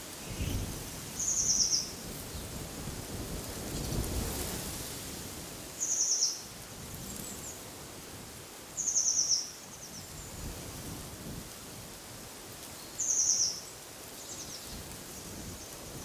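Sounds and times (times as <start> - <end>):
wind through trees: 0.0 - 16.0.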